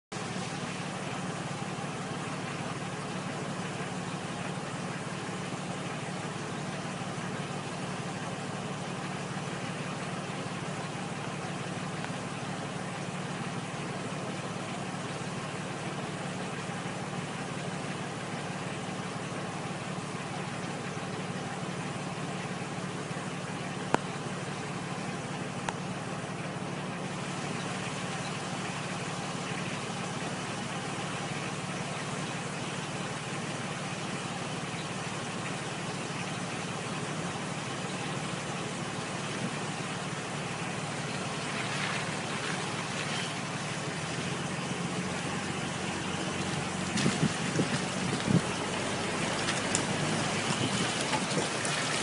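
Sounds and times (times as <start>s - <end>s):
vehicle engine idling: 0.1s - 52.0s.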